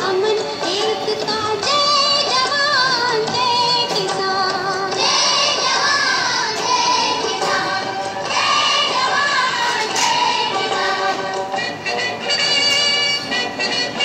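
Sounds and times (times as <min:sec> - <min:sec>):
high singing voice: 0:00.0 - 0:13.3
instrumental accompaniment: 0:00.0 - 0:14.0.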